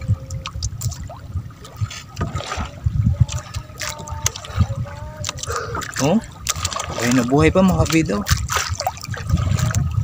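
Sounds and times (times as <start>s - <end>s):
seawater sloshing and trickling: 0.0s - 10.0s
water splash: 0.0s - 10.0s.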